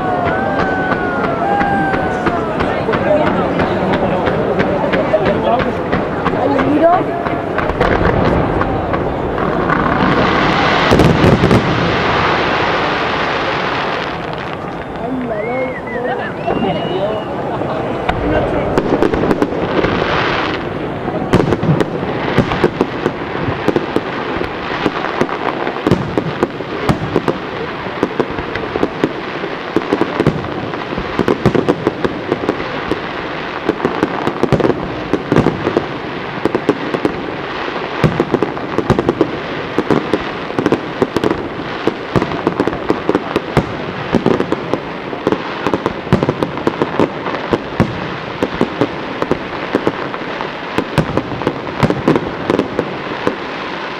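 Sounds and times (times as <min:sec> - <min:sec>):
fireworks bursts and bangs: 0:00.0 - 0:53.9.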